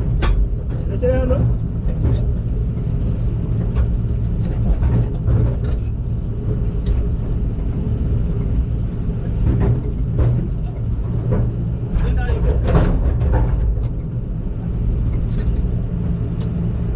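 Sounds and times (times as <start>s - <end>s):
heavy machine engine running: 0.0s - 16.9s.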